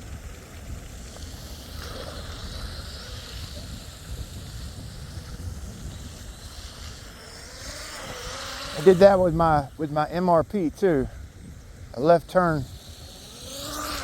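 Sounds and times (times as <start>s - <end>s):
high whine of electric boat motor: 0.0s - 14.0s
wind rumbling on microphone: 0.0s - 14.0s.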